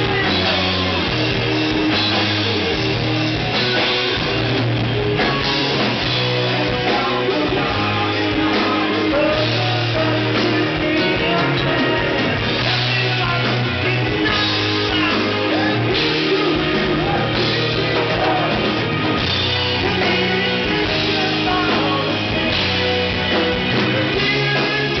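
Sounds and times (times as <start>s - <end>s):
bass guitar: 0.0s - 25.0s
drums: 0.0s - 25.0s
electric guitars: 0.0s - 25.0s
person singing: 0.0s - 25.0s.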